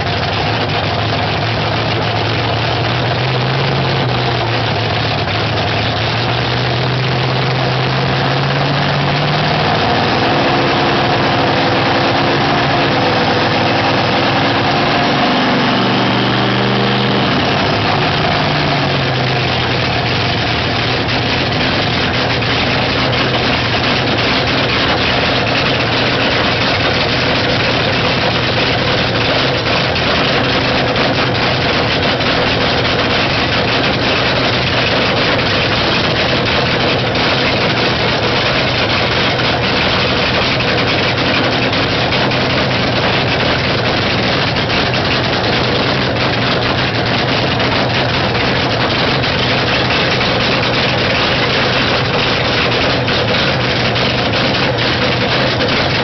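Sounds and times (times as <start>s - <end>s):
loud race car engine idling: 0.0s - 56.0s.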